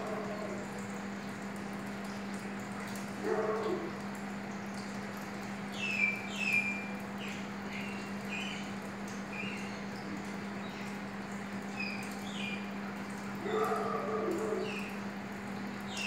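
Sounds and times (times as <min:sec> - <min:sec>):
aquarium pump hum: 0:00.0 - 0:16.0.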